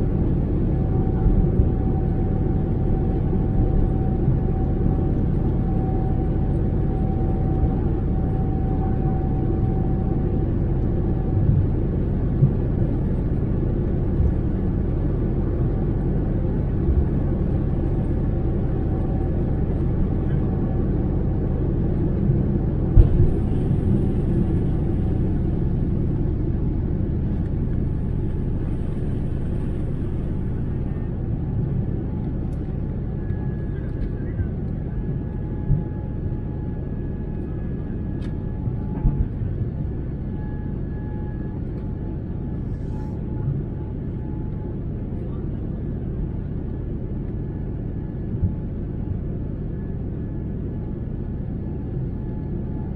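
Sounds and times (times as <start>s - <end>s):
jet engines and wheels rumbling: 0.0s - 52.9s.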